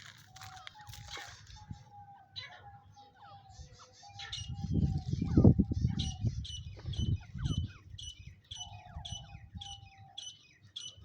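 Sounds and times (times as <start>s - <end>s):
partridge chirping: 0.0s - 11.0s.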